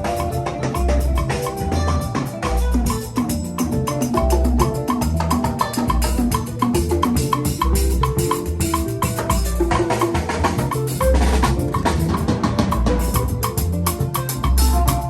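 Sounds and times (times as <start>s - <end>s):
live band instrumental groove: 0.0s - 15.0s.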